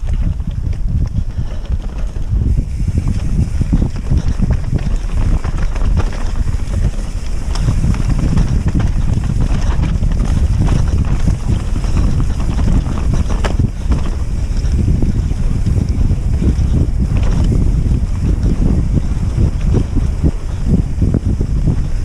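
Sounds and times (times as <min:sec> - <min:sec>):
bike rattling clicks and knocks: 0:00.0 - 0:22.0
bike tyre rumble: 0:00.0 - 0:22.0
wind buffeting microphone: 0:00.0 - 0:22.0.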